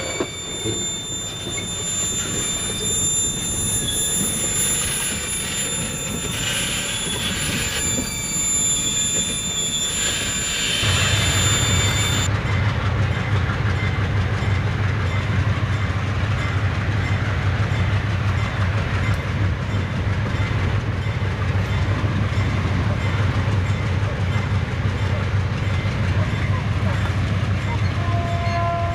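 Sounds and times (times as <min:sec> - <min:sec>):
diesel locomotive engines humming: 0:00.0 - 0:28.9
train wheels squealing on rails: 0:00.0 - 0:28.9.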